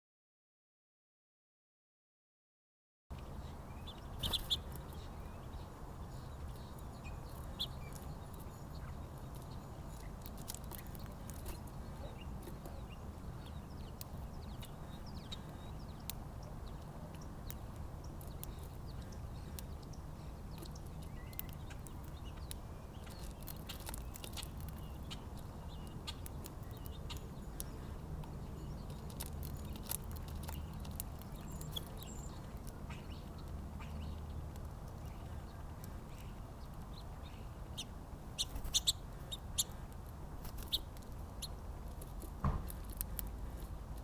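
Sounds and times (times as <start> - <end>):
small birds chirping: 3.1 - 44.0.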